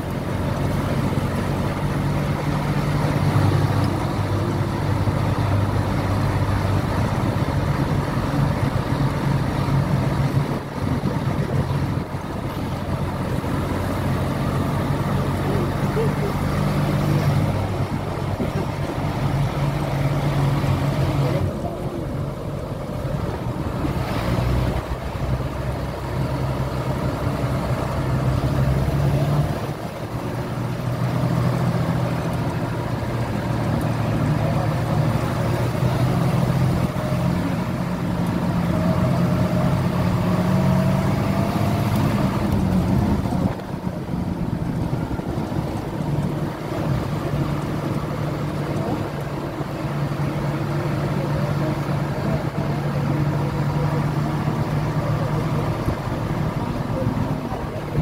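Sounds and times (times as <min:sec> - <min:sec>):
tyre and wind noise: 0:00.0 - 0:50.9
vehicle engine hum: 0:00.0 - 0:58.0.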